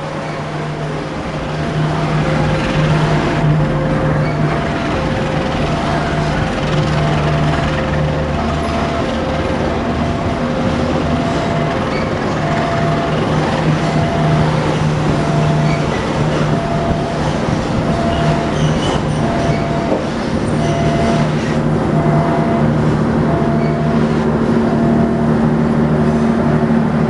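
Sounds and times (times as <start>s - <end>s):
low steady hum: 0.0s - 27.0s
train wheels on rails: 0.0s - 27.0s
two-tone crossing alarm: 0.3s - 26.6s.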